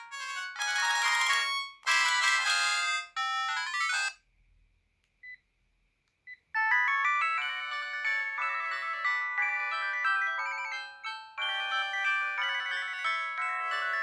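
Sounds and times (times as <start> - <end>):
electronic ringtone melody: 0.0 - 4.2, 6.6 - 14.0.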